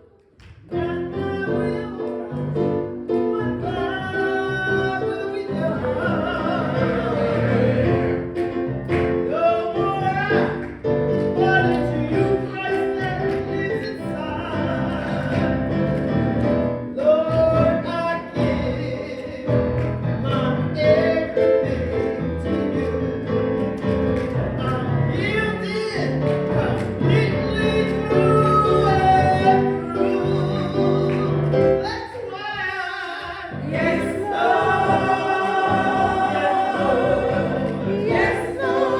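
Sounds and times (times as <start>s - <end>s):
gospel choir singing: 1.0s - 38.9s.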